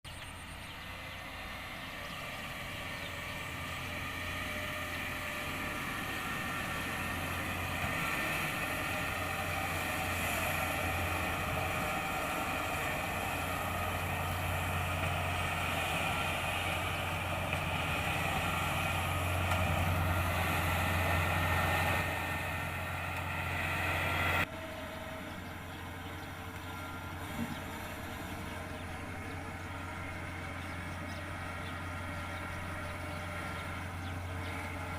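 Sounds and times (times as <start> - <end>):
combine harvester engine drone: 0.1 - 34.9.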